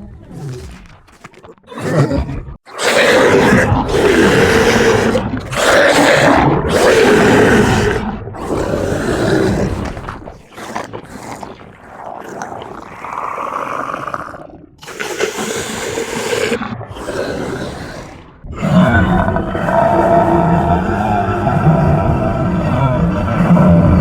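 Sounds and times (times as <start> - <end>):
creature growling roars: 1.7 - 24.0.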